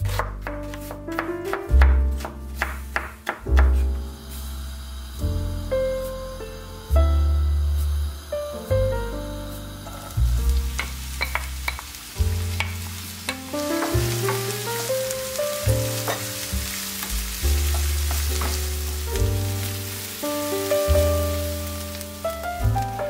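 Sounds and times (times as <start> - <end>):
background music with bass: 0.0 - 23.0
onion sizzling in oil: 0.0 - 23.0.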